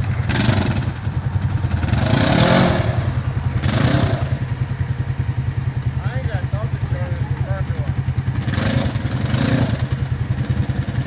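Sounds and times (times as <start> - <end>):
utility vehicle engine revving: 0.0 - 11.0.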